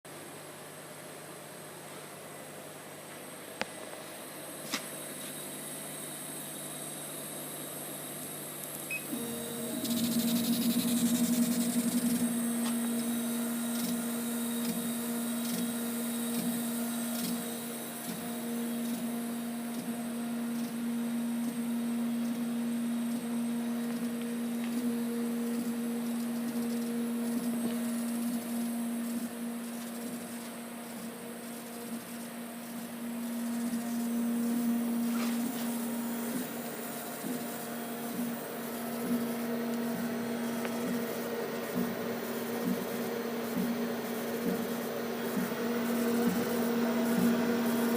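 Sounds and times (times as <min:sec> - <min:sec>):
laser cutter humming: 0:00.1 - 0:47.9
laser cutter hiss: 0:04.4 - 0:47.9.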